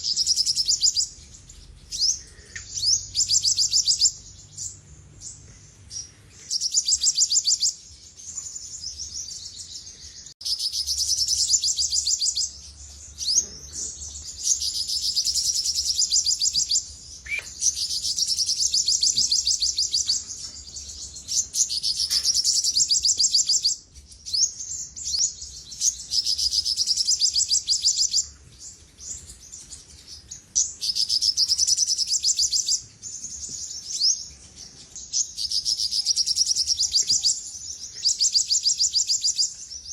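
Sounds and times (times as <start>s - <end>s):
sunbird rapid trilling song: 0.0s - 39.9s.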